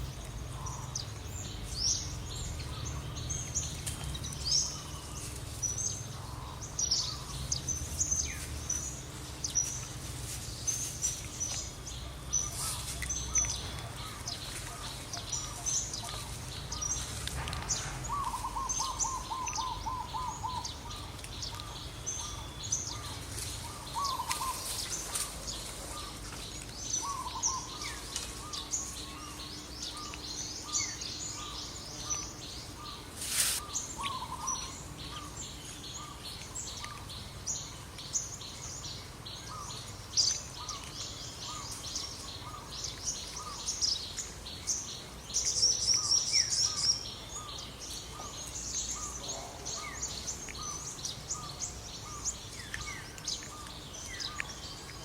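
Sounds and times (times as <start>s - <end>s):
outdoor background noise: 0.0s - 55.0s.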